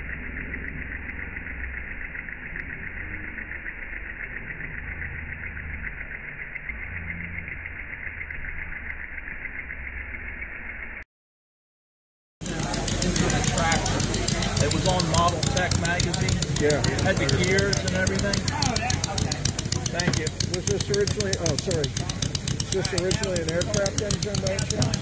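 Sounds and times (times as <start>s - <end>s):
model engine running fast: 0.0s - 9.1s, 12.4s - 25.0s.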